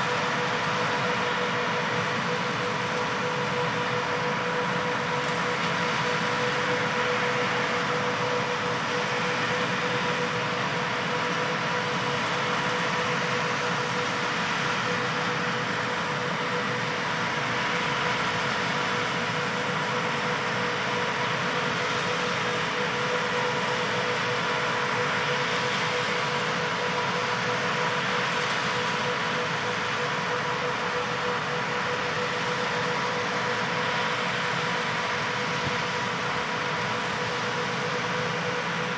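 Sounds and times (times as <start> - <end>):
tractor steady hum: 0.0 - 38.9.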